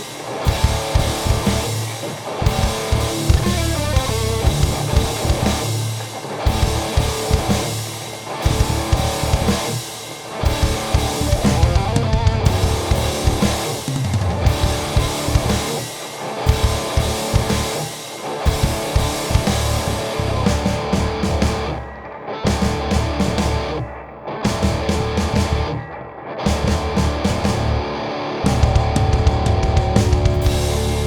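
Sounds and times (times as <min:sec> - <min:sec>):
distorted electric guitar riff: 0:00.0 - 0:31.0
drums: 0:00.0 - 0:31.0.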